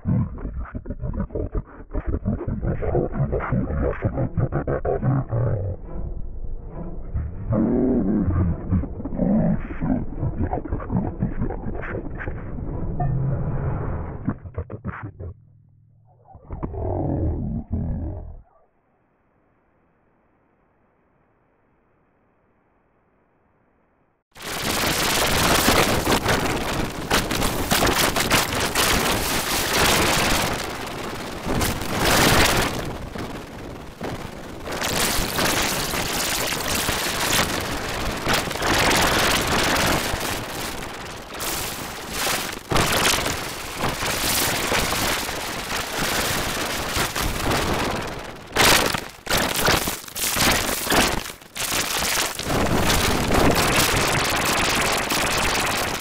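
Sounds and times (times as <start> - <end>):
dense crackling noise: 0.0 - 56.0.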